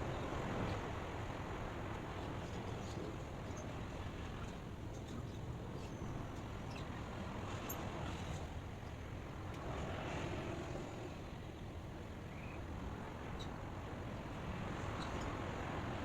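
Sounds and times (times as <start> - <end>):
low rumbling white noise: 0.0 - 16.0.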